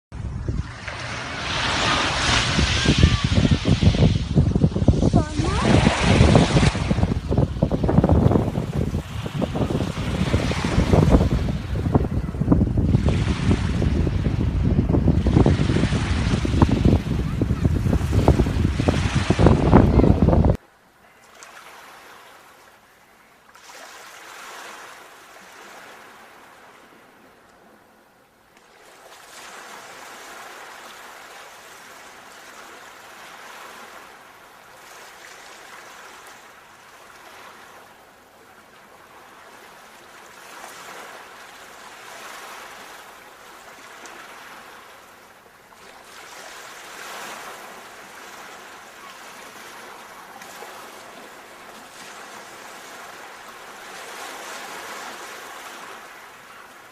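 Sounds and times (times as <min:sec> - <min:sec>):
sea waves washing ashore: 0:00.1 - 0:56.9.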